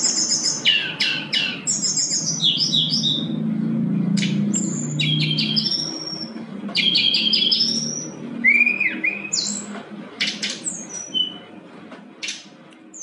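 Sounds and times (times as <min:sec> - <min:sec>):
bird singing high whistled notes: 0:00.0 - 0:03.4, 0:04.1 - 0:11.5.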